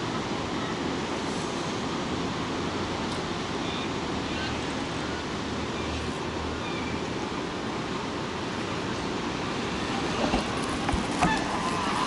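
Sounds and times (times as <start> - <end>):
water rushing over spillway: 0.0 - 12.0.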